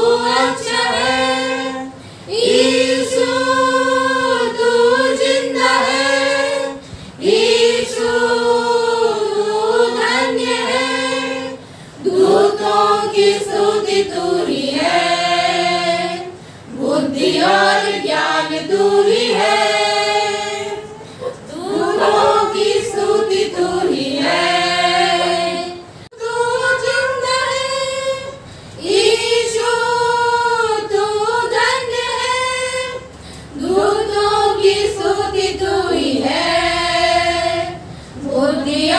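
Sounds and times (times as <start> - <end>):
women singing a hymn: 0.0 - 38.9.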